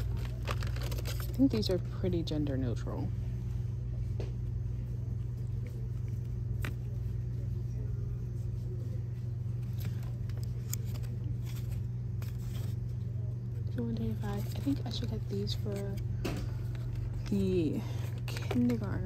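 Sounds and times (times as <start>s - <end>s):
store background hum: 0.0s - 19.0s.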